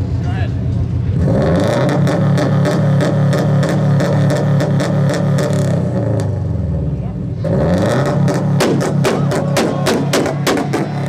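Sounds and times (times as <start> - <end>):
car engine at high revs: 0.0 - 11.0
exhaust crackles: 0.0 - 11.0.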